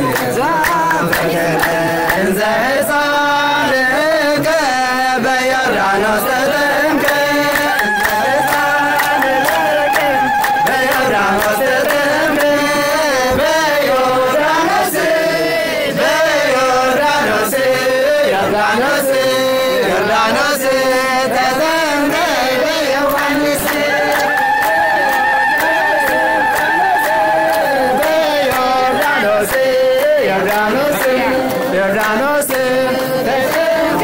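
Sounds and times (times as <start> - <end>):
person singing chant-like melody: 0.0 - 34.0.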